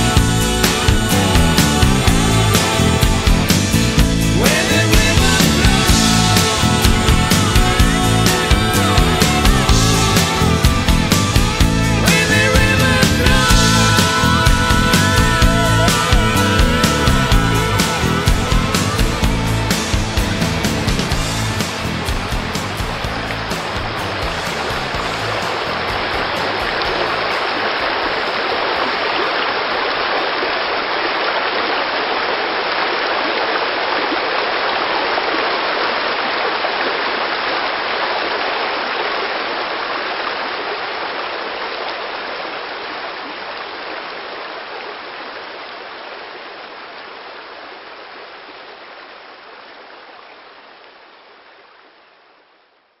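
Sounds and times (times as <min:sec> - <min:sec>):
stream water rushing: 0:00.1 - 0:52.2.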